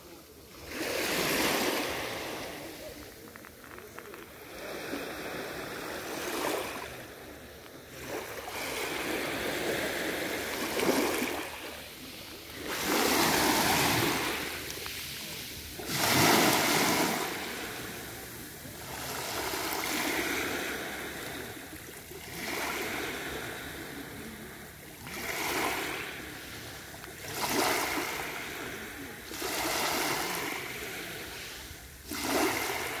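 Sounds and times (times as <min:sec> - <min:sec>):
small waves lapping on shell beach: 0:00.0 - 0:33.0.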